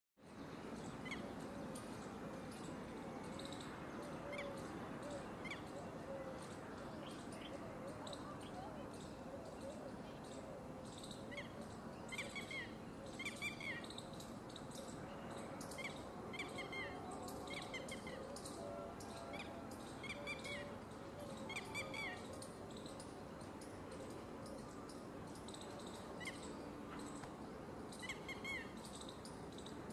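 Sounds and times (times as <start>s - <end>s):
background noise: 0.2s - 29.9s
birds chirping: 0.5s - 29.9s.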